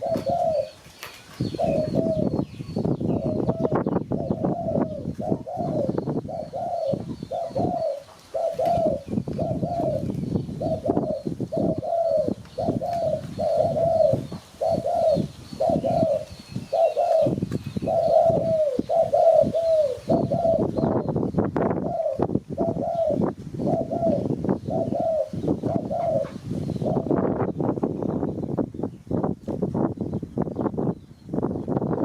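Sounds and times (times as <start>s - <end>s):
dove cooing: 0.0s - 0.8s, 1.4s - 27.4s.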